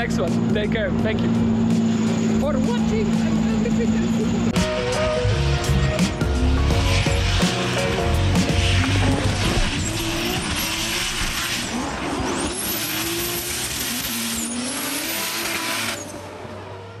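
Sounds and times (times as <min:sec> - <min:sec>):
spinning tyres hissing: 0:00.0 - 0:16.4
car engines revving high: 0:00.0 - 0:17.0.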